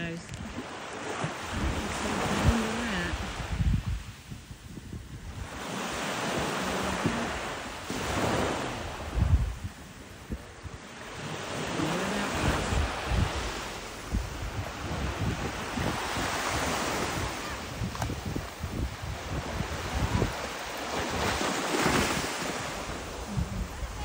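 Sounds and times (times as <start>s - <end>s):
small waves breaking on beach: 0.0s - 24.0s
wind thumping on microphone: 0.0s - 24.0s.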